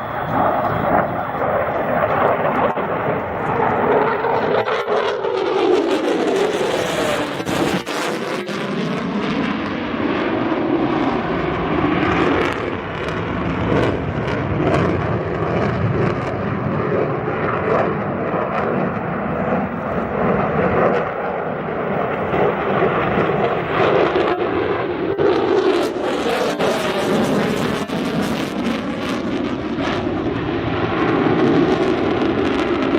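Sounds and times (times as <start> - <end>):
jet engine roar: 0.0 - 32.9
sweeping hollow tone of jet passing: 0.0 - 32.9.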